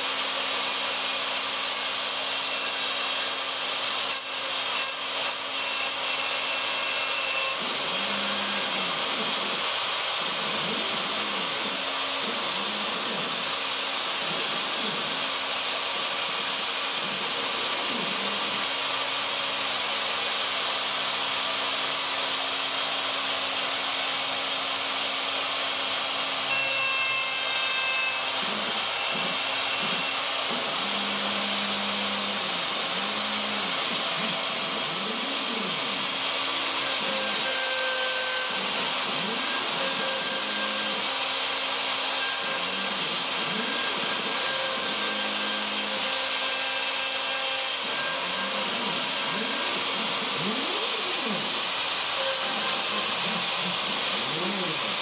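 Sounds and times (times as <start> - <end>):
router cutting wood: 0.0 - 55.0.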